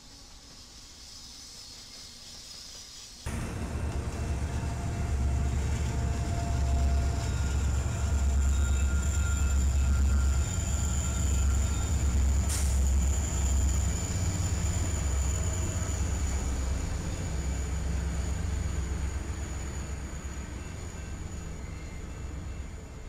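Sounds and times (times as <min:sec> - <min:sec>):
train wheels rumbling: 0:01.3 - 0:23.0
high wheel squeal: 0:03.3 - 0:23.0.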